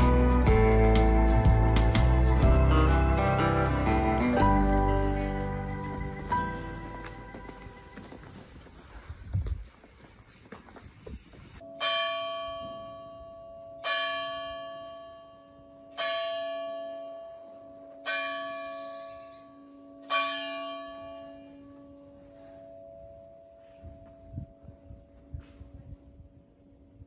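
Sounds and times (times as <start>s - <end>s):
church bell striking: 0.0s - 8.0s, 11.6s - 25.7s.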